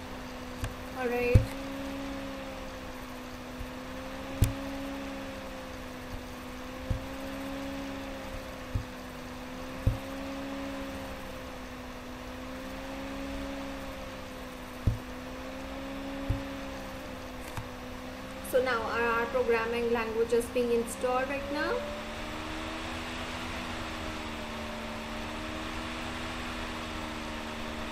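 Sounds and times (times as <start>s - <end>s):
low wavering hum: 0.0s - 27.9s.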